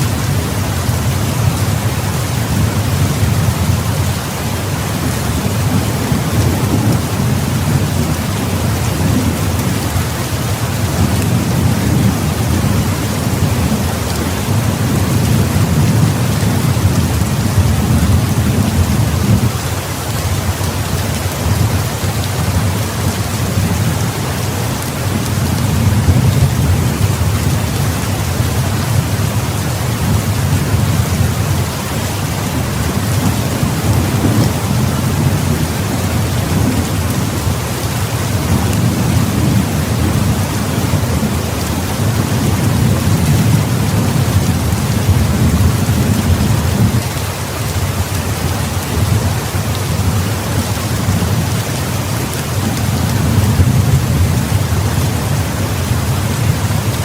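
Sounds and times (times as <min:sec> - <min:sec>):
rumble of thunder: 0:00.0 - 0:19.8, 0:20.4 - 0:47.4, 0:48.0 - 0:57.0
heavy rain falling: 0:00.0 - 0:57.0.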